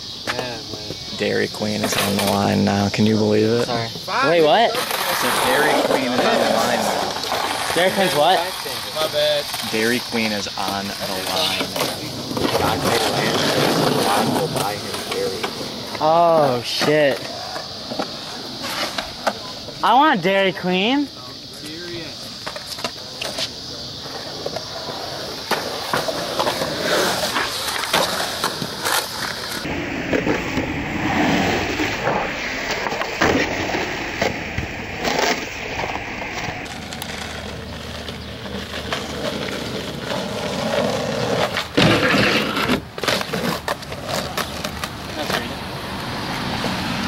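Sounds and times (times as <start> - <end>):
skateboard wheels rolling on concrete: 0.0 - 47.0
skateboard tail clacks: 4.1 - 19.8, 21.5 - 47.0.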